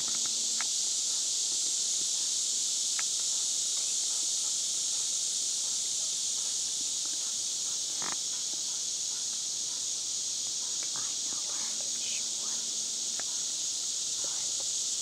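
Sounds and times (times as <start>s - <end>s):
insects buzzing chorus: 0.0s - 15.0s.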